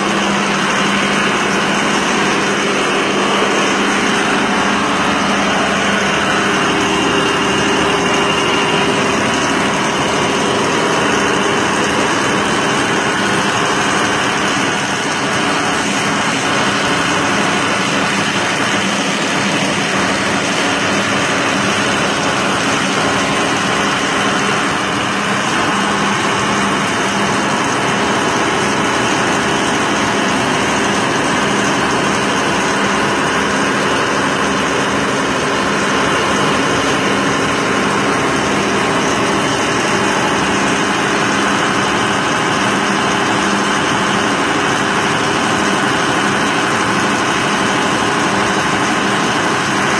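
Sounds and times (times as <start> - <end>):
machine whirring: 0.0 - 49.9.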